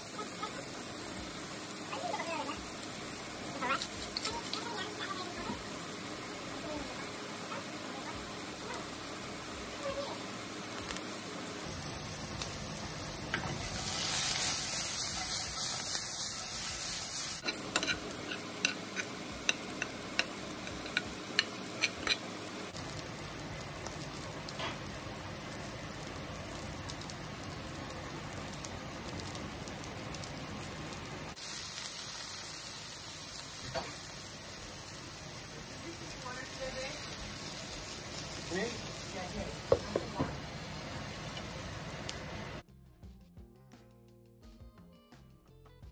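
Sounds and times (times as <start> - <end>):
potatoes sizzling in hot oil: 0.0 - 42.7.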